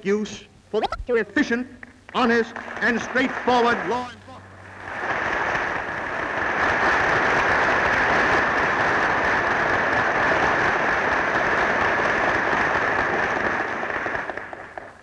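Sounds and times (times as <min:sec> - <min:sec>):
audience applauding: 0:02.2 - 0:15.0.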